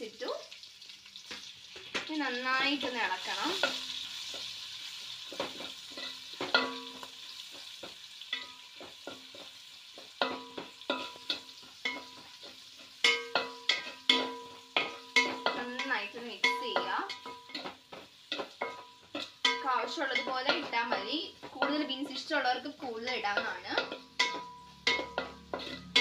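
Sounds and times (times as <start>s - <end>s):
vegetables sizzling: 0.0s - 26.0s
metal spoon tapping and scraping pot: 1.3s - 4.6s, 5.2s - 26.0s.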